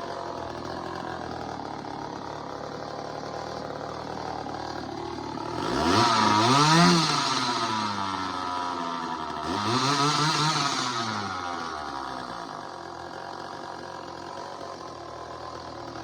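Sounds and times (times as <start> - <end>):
chainsaw idling and revving: 0.0 - 16.0.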